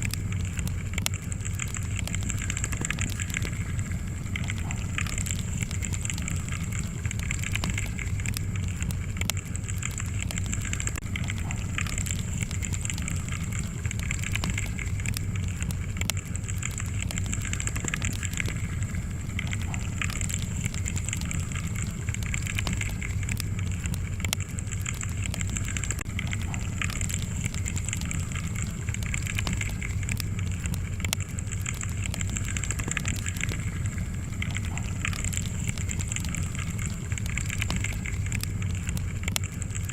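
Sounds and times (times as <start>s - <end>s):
fire burning in fireplace: 0.0s - 39.9s.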